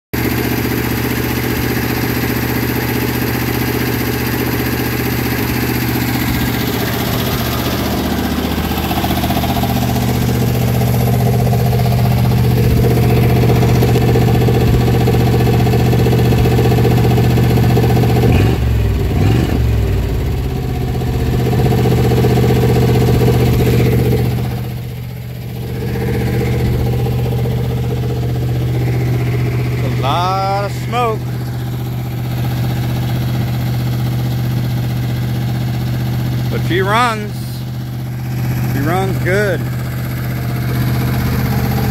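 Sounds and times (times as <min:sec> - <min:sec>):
car engine running: 0:00.2 - 0:41.9.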